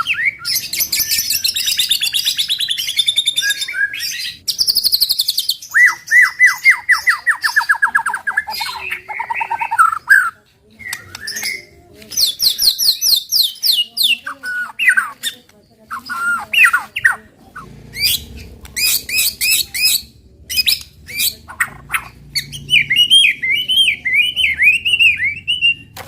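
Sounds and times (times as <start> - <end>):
bird singing varied song: 0.0 - 26.0.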